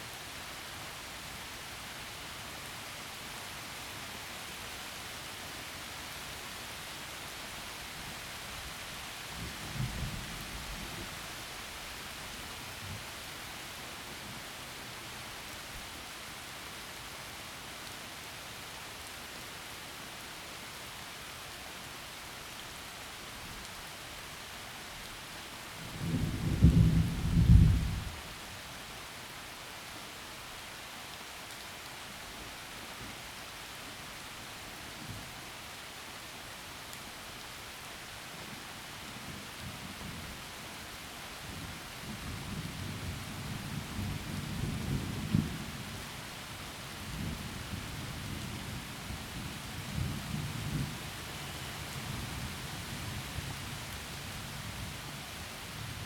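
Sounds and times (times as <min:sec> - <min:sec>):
heavy rain through trees: 0:00.0 - 0:56.0.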